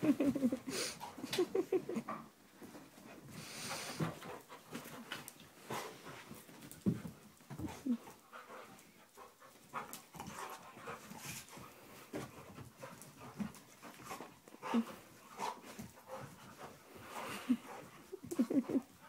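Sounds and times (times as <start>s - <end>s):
dogs panting and scuffling: 0.0s - 19.0s.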